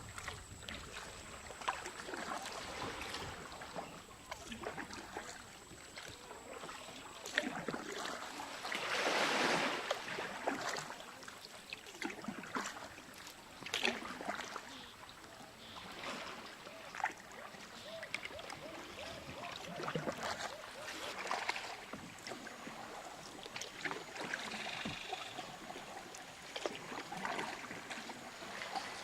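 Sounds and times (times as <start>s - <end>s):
kayak paddles splashing water: 0.0s - 29.0s
rush of water: 0.0s - 29.0s.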